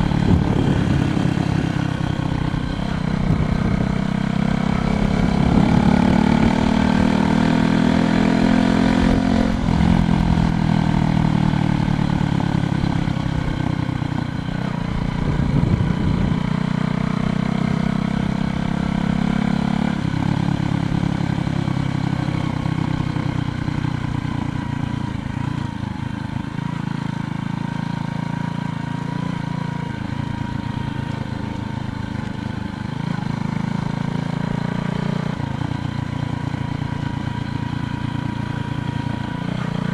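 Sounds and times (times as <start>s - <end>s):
bicycle road rumble: 0.0s - 39.9s
wind: 0.0s - 39.9s.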